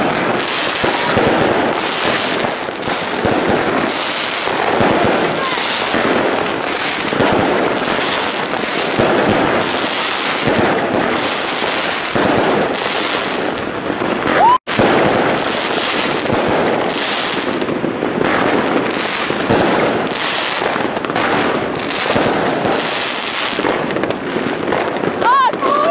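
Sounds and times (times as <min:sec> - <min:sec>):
fireworks crackling: 0:00.0 - 0:25.9.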